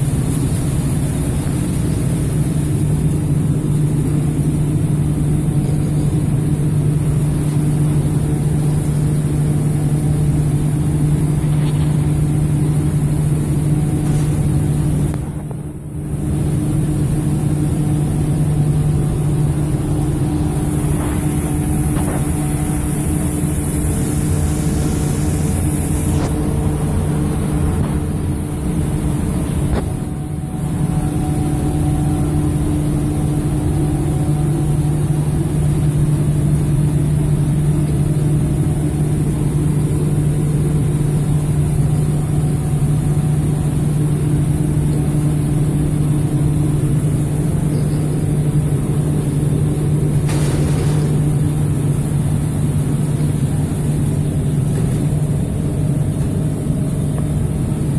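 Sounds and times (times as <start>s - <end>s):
air rushing through ducting: 0.0s - 56.0s
dust extractor fan humming: 0.0s - 57.9s.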